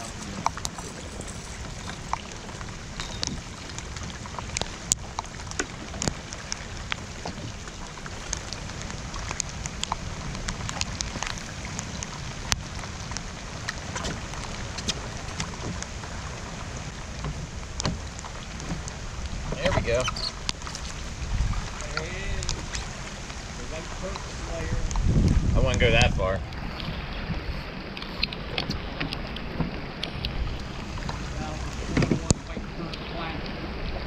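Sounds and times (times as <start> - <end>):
rain falling on water: 0.0 - 34.0
wind rumble on microphone: 0.0 - 34.0.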